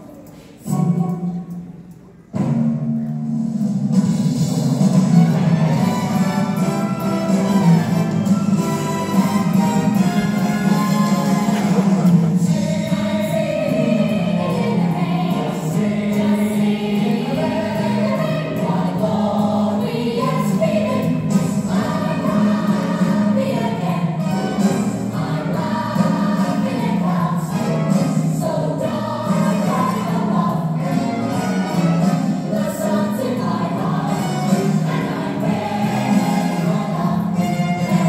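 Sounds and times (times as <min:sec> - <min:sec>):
group of voices singing: 0:05.4 - 0:38.0.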